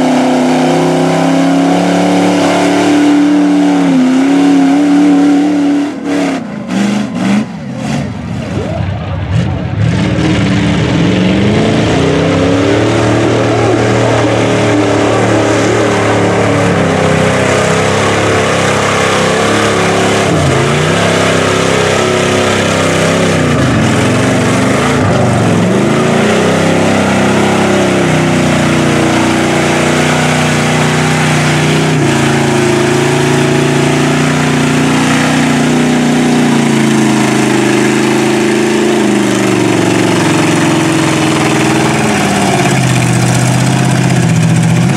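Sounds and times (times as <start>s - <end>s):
truck engines revving: 0.0s - 44.9s.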